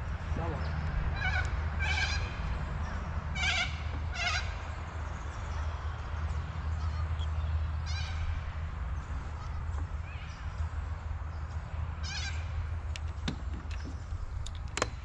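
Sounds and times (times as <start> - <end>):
harsh bird calls: 0.0 - 14.4.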